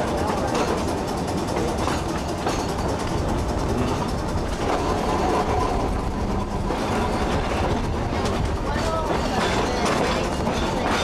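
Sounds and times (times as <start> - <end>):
steel wheels rumbling on rail: 0.0 - 11.0.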